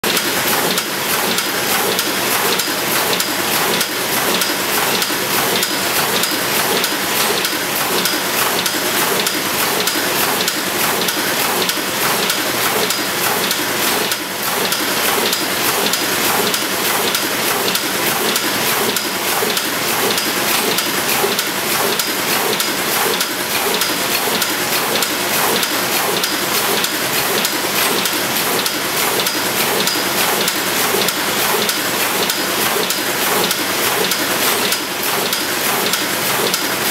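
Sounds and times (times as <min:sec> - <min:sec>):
printing press clattering: 0:00.0 - 0:36.9.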